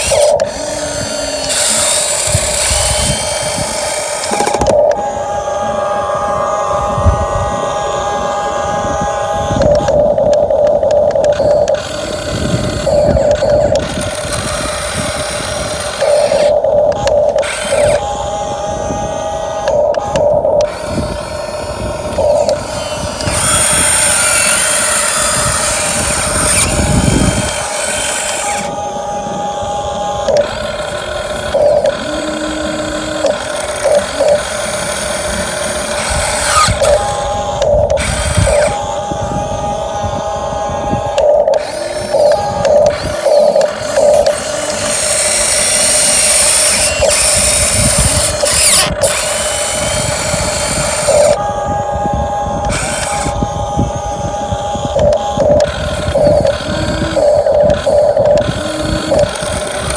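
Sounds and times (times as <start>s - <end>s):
toy excavator motors whirring: 0.0s - 59.9s.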